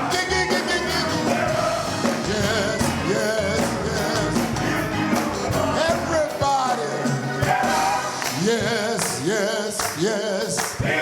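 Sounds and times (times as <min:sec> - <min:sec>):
bass: 0:00.0 - 0:09.2
drums: 0:00.0 - 0:11.0
gospel choir singing: 0:00.0 - 0:11.0.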